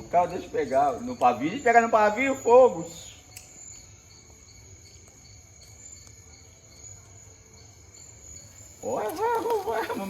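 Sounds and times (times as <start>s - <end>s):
cricket steady high trill: 0.0s - 10.0s
pulsing insect chirp: 0.0s - 10.0s.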